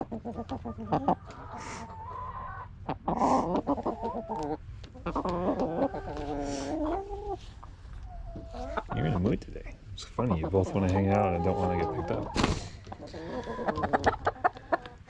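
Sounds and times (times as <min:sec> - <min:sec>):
young chickens clucking and trilling: 0:00.0 - 0:15.0.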